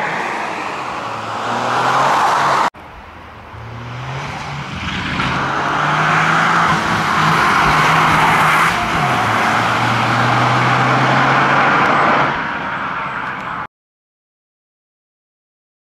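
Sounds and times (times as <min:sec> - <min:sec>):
car engine driven hard: 0:00.0 - 0:13.7.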